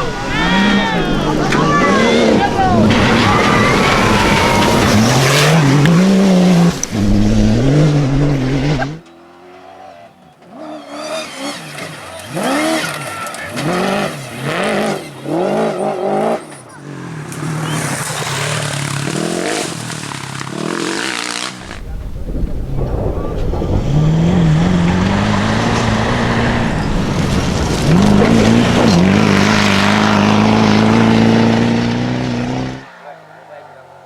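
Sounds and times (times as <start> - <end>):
engine revving through gears: 0.0 - 9.6, 10.5 - 32.9
rally car engine full throttle: 0.0 - 34.0.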